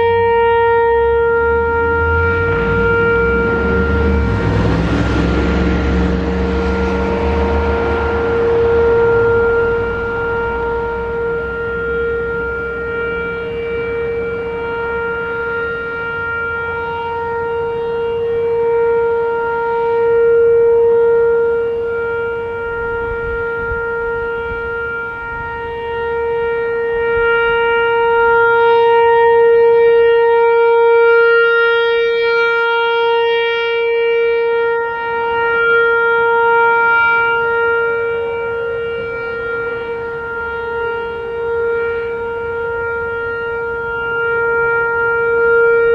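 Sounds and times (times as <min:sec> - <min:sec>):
electronic warning siren steady tone: 0:00.0 - 0:45.9.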